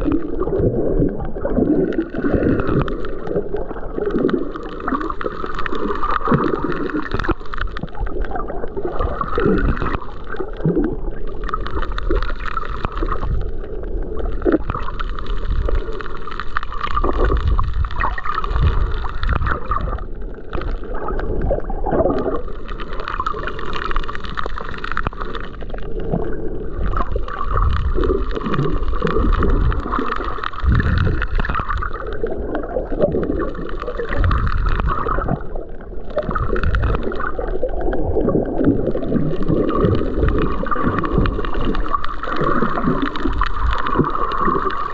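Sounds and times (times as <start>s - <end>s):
underwater gurgling and sloshing: 0.0s - 44.9s.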